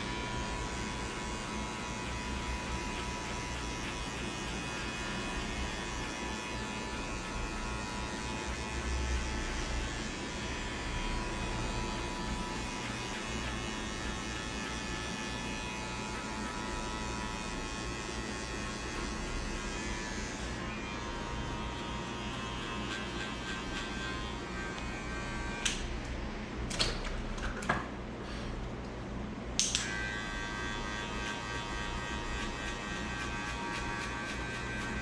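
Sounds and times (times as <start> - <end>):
electric hair clippers buzzing: 0.0 - 26.2, 29.6 - 35.0.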